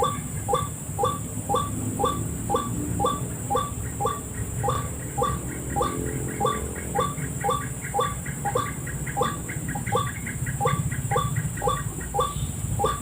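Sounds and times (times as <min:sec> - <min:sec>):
steady high hiss: 0:00.0 - 0:13.0
waterhen calling: 0:00.0 - 0:13.0.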